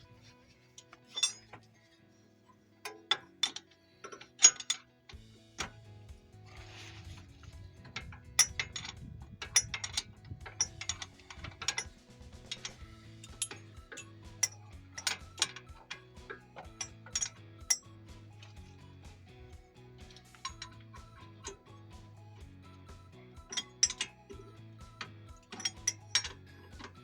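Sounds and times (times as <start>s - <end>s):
quiet background music: 0.0s - 27.0s
hand tools clinking on metal: 0.2s - 1.9s, 2.8s - 27.0s.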